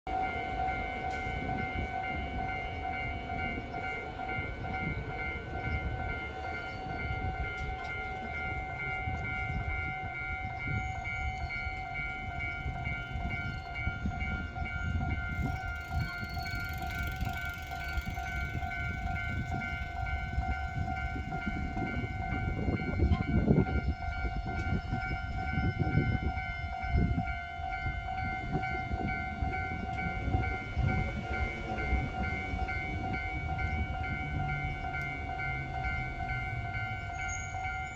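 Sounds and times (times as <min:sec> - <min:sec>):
level-crossing warning bell: 0:00.1 - 0:37.9
low rumble of rail traffic: 0:00.1 - 0:37.9.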